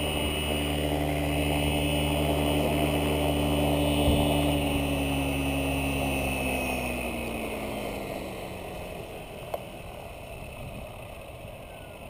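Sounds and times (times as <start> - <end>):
helicopter motor and rotor spooling down: 0.0 - 12.0.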